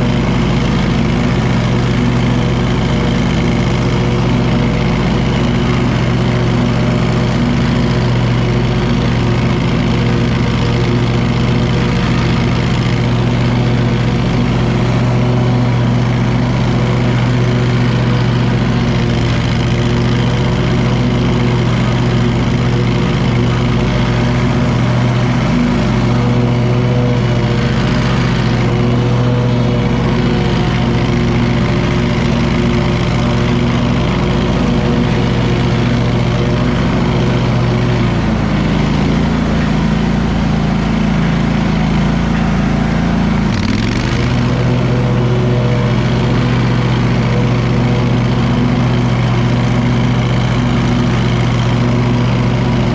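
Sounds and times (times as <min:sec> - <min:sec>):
lawn mower engine droning: 0:00.0 - 0:52.9.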